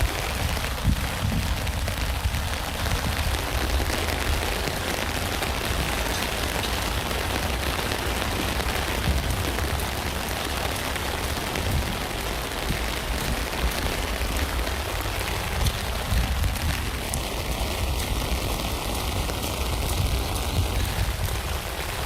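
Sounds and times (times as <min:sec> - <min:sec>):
rain falling on a tent: 0:00.0 - 0:22.0.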